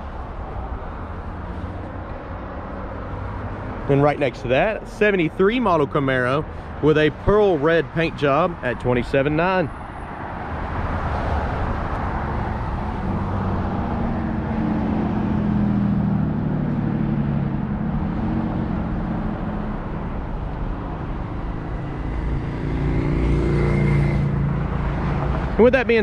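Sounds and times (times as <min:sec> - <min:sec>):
steady traffic rumble: 0:00.0 - 0:26.0
vehicles passing: 0:00.0 - 0:26.0.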